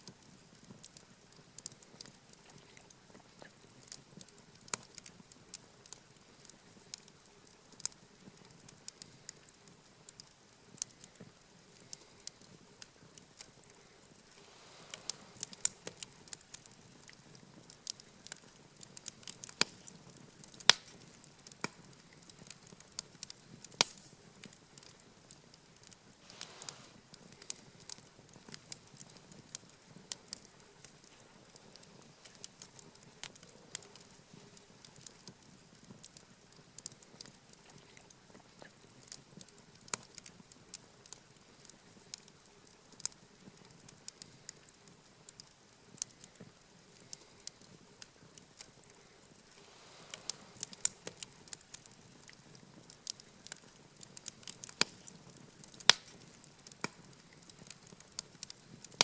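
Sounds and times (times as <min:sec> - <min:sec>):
campfire crackling: 0:00.0 - 0:59.0
fire popping: 0:00.0 - 0:59.0.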